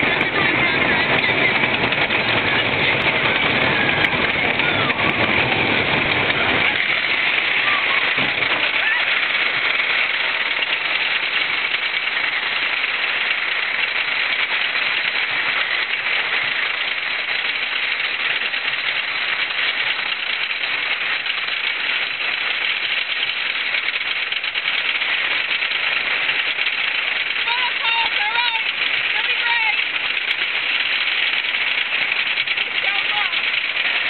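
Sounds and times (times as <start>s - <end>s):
roller coaster rushing and rattling: 0.0s - 34.0s.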